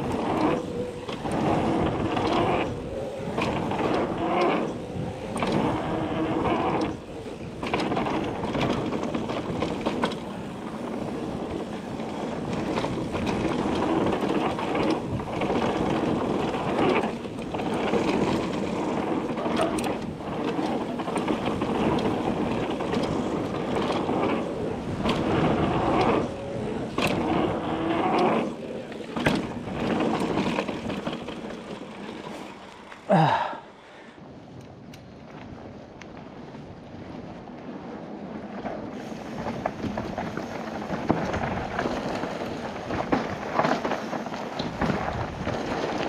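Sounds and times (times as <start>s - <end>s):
bike rattles and thuds: 0.0s - 33.4s, 38.4s - 46.0s
bike tyre and wind noise: 0.0s - 46.0s.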